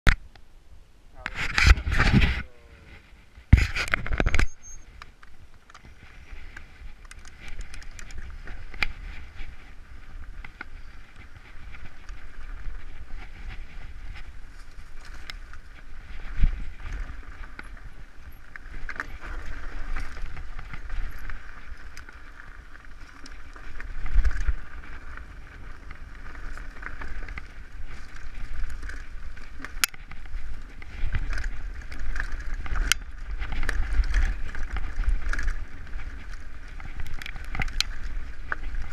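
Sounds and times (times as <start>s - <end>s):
wind: 0.1s - 38.9s
bike rattling: 1.2s - 38.9s.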